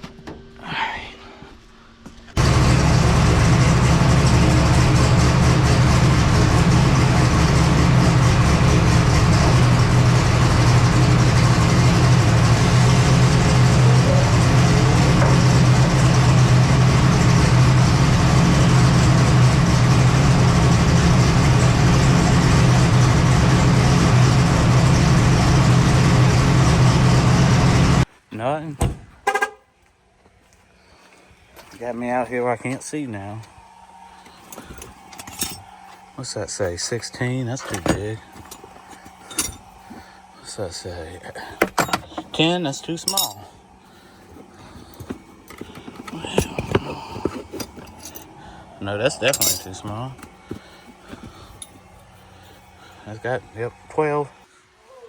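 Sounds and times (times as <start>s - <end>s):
truck engine running steadily: 2.3s - 28.1s, 31.0s - 54.8s.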